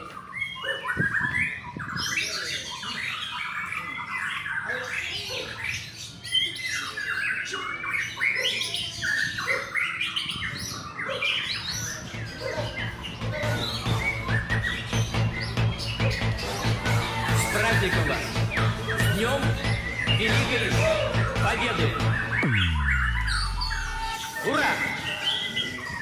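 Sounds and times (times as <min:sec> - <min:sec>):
bird song whistling and chattering: 0:00.0 - 0:26.0.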